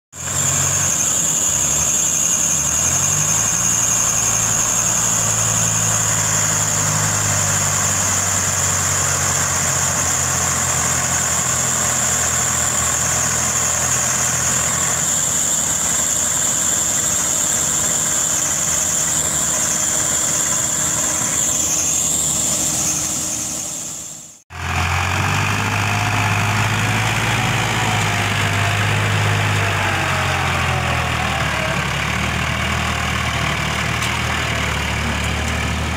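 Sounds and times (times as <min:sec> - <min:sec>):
diesel tractor engine running: 0:00.1 - 0:35.9.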